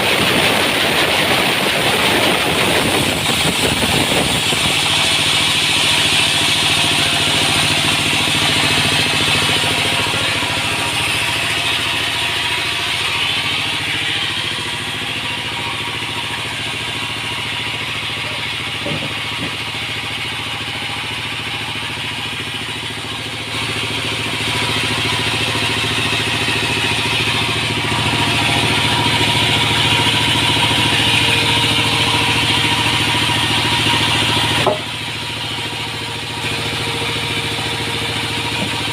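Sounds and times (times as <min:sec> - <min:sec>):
sawmill motor hum: 0:00.0 - 0:38.9.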